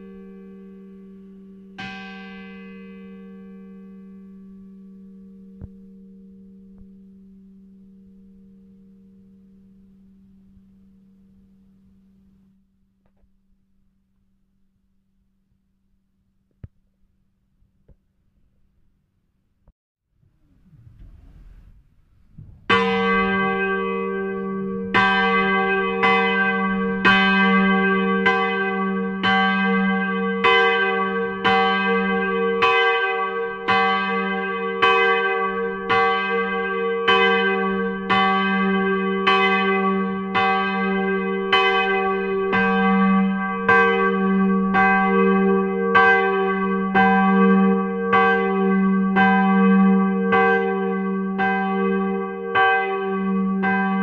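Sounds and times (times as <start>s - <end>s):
church bell ringing: 0.0s - 12.3s, 22.7s - 54.0s.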